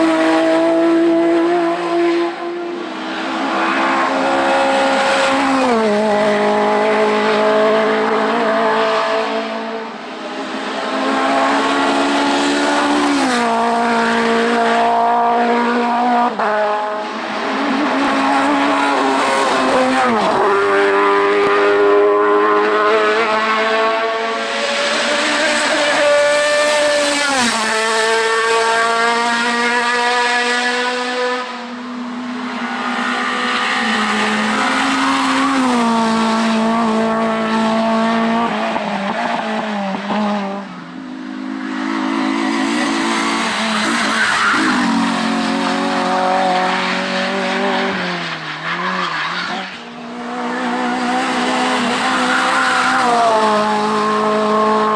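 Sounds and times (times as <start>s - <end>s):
racing car engines revving: 0.0s - 54.9s.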